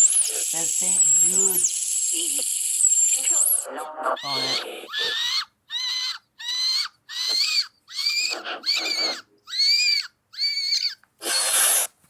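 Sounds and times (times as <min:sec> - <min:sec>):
high-pitched bird-like calls: 0:00.0 - 0:03.7, 0:04.4 - 0:11.9.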